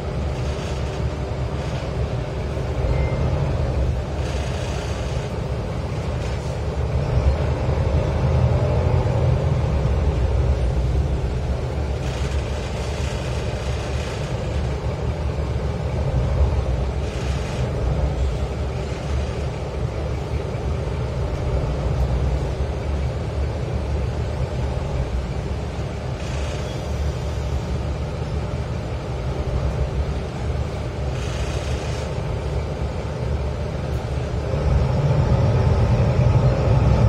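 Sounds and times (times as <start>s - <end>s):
bus engine and road rumble: 0.0s - 37.0s.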